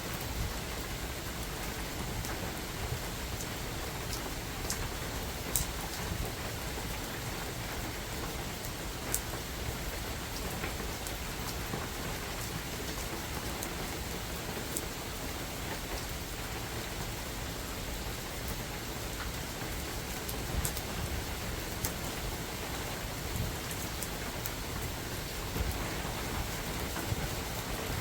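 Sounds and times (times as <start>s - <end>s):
rain hissing on forest: 0.0s - 28.0s.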